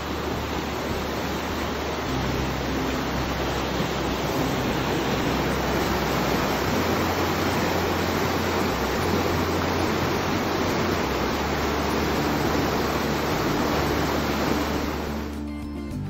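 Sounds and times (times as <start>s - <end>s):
river rushing over stones: 0.0s - 15.4s.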